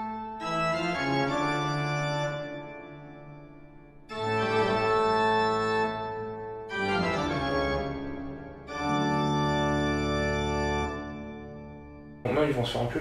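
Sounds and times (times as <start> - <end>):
slow organ-like chords: 0.0 - 12.9.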